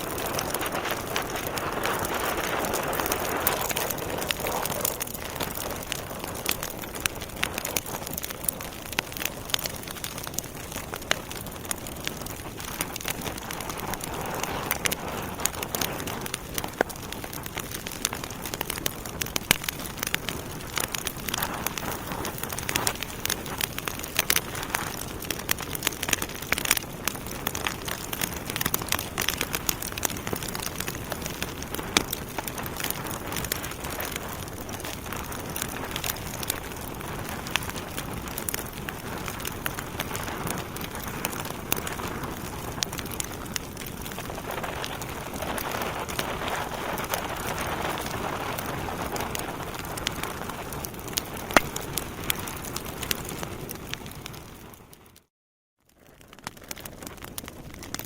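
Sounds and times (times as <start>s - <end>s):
wood fire crackling: 0.0s - 55.3s, 56.0s - 58.0s.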